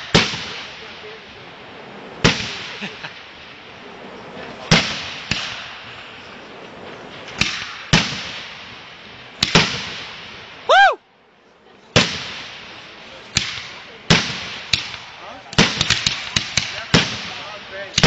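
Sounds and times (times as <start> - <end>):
fireworks bangs with echo: 0.0 - 6.3, 7.1 - 10.7, 11.9 - 18.0.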